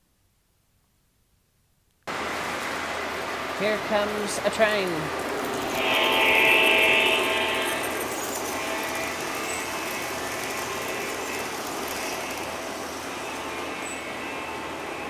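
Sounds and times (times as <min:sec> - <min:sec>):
model train rolling on track: 0:02.1 - 0:15.0.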